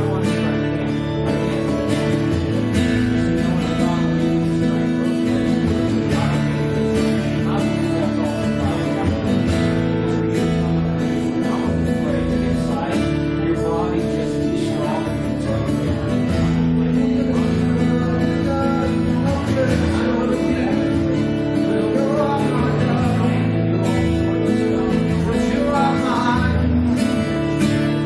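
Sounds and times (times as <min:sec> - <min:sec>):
church worship music: 0:00.0 - 0:28.0
strummed guitar: 0:00.0 - 0:28.0.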